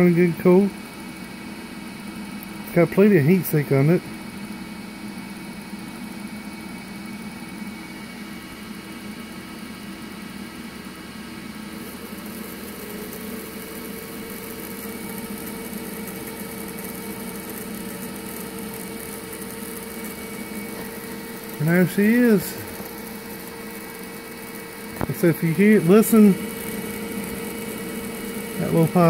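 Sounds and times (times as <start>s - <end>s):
cooling fans humming: 0.0s - 29.0s.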